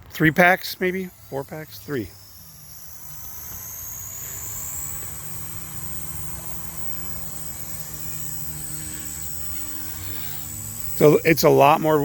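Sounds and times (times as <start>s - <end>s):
rc helicopter hovering: 0.0s - 12.0s.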